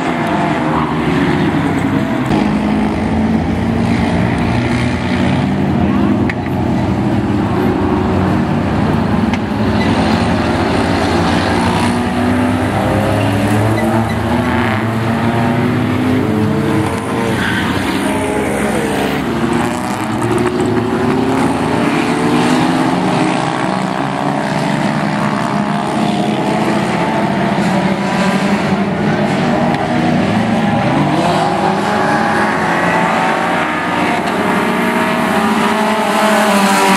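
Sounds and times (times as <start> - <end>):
race car engines: 0.0 - 36.9.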